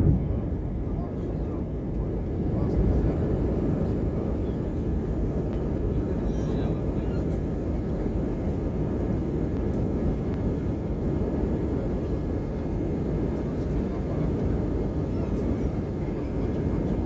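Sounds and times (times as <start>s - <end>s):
airliner cabin engine rush: 0.0s - 17.0s.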